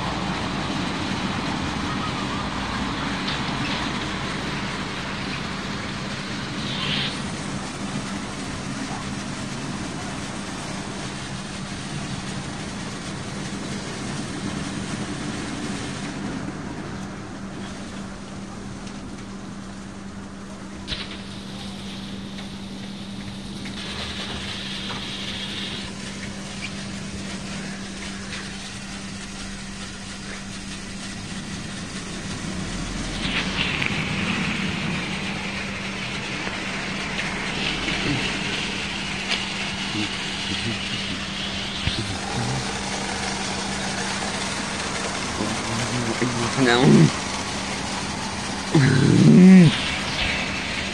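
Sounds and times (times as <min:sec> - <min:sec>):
car wash motor hum: 0:00.0 - 0:50.9
spraying water: 0:00.0 - 0:50.9
loud hiss: 0:02.5 - 0:16.2, 0:20.8 - 0:50.9.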